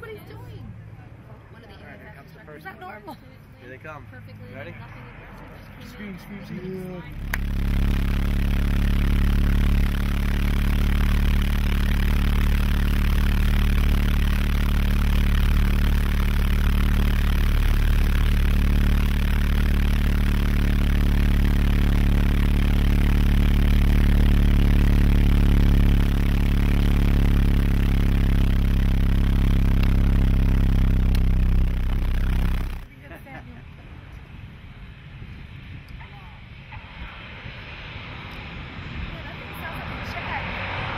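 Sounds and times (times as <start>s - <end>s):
turboprop engine drone: 0.0s - 40.9s.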